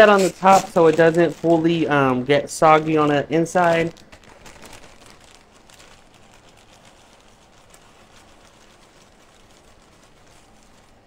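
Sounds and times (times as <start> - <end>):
chip bag rustling: 0.0 - 11.0.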